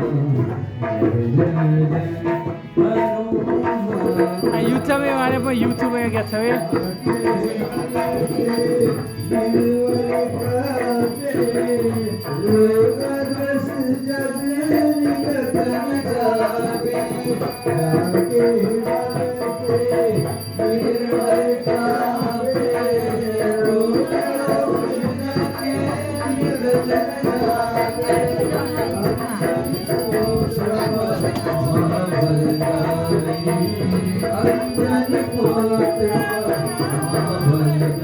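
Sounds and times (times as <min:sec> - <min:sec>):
voices singing devotional melody: 0:00.0 - 0:38.0
jingling metal percussion: 0:03.3 - 0:38.0.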